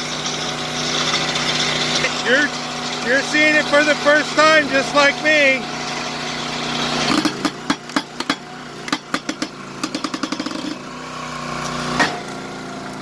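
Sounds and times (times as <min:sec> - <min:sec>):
small gas engine running: 0:00.0 - 0:13.0.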